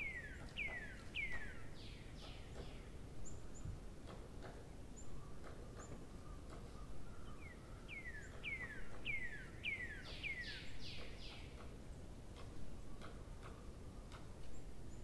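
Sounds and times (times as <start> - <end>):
bird singing: 0.0 - 3.8, 4.9 - 15.0.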